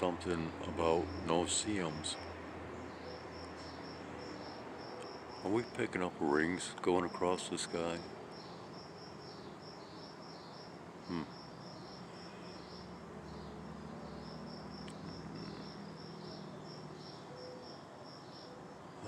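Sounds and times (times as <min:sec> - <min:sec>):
crickets chirping: 0:00.0 - 0:19.0
distant aircraft engine drone: 0:00.0 - 0:19.0.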